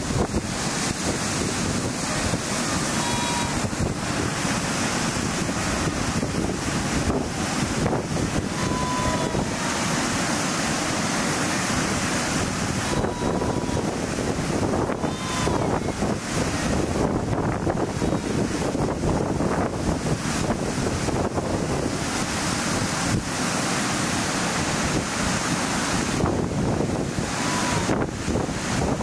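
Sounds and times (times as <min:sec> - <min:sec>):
wind blowing across microphone: 0:00.0 - 0:23.6, 0:24.4 - 0:29.0.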